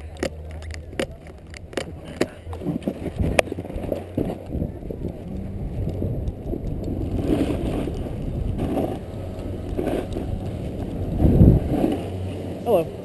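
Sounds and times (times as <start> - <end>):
wind buffeting microphone: 0.0 - 13.0
snowboard sliding over snow: 2.0 - 13.0.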